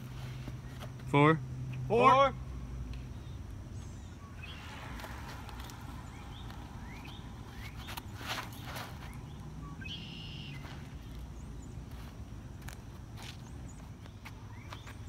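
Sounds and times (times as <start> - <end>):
birds chirping: 1.7 - 15.0
steady low rumble: 2.4 - 14.7.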